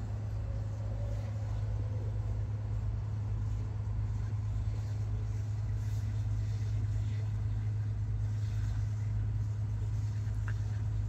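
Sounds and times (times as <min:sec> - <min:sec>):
diesel bus engine humming: 0:00.0 - 0:11.0.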